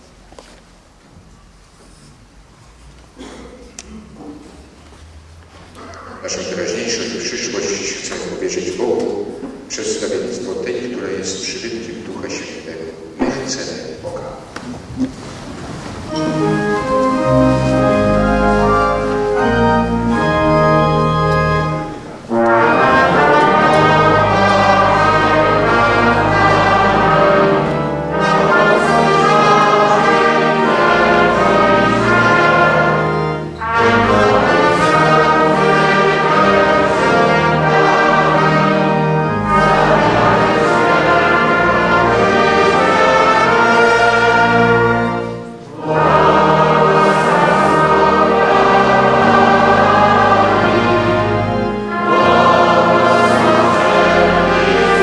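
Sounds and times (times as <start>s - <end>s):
brass band playing a hymn: 5.5s - 55.0s.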